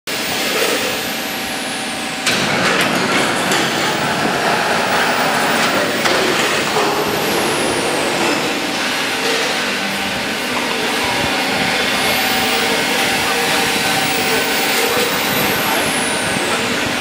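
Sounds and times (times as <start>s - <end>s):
industrial machinery noise: 0.1s - 17.0s.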